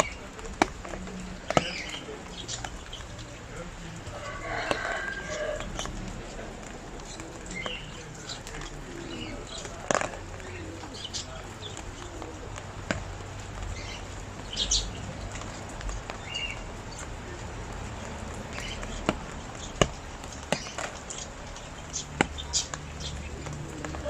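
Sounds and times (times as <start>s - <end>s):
drips on a hard surface: 0.0s - 24.0s
steady rain falling: 0.0s - 24.0s.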